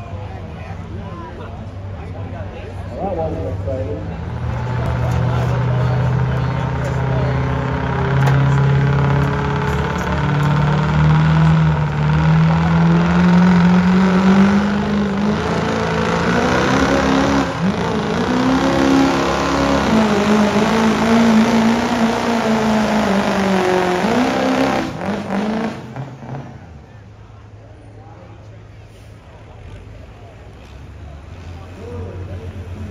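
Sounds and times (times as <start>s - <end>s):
diesel engine under full load: 0.0s - 32.9s.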